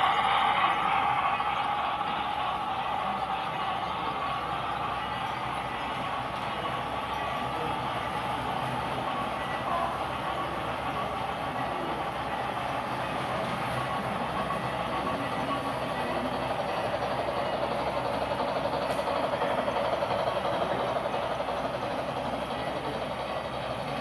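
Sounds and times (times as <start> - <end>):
model train wheels rumbling: 0.0 - 24.0.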